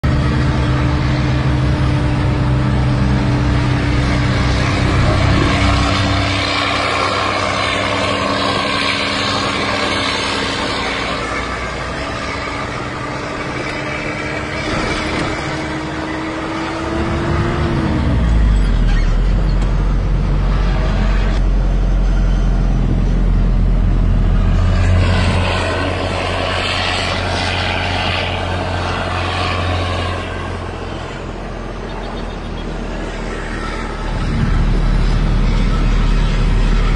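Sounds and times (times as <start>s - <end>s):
diesel truck engine under load: 0.0s - 36.9s
whining tone dropping in pitch: 0.0s - 36.9s.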